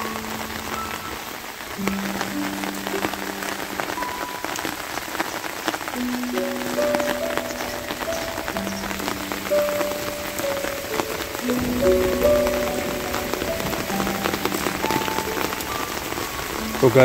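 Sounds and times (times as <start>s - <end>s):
soft background music: 0.0s - 17.0s
steady rain falling: 0.0s - 17.0s.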